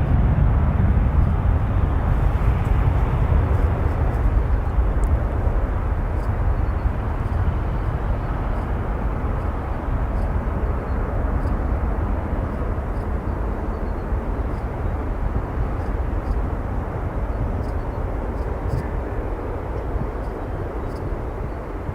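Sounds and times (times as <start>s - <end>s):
jet engines deep rumble: 0.0s - 21.9s.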